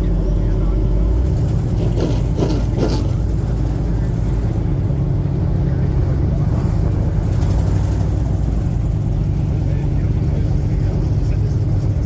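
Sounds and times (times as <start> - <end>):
race car engines running: 0.0 - 12.0.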